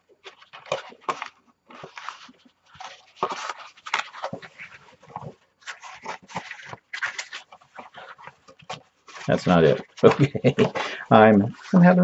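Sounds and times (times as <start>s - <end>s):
cardstock rustling and scraping: 0.2s - 12.0s.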